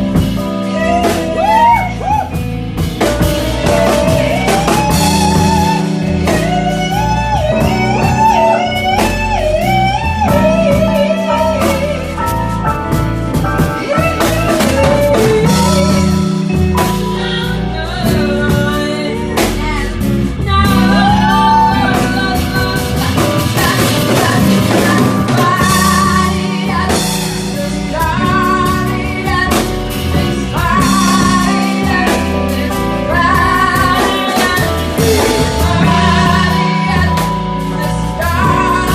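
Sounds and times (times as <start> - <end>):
drum kit: 0.0 - 38.9
live band music: 0.0 - 38.9.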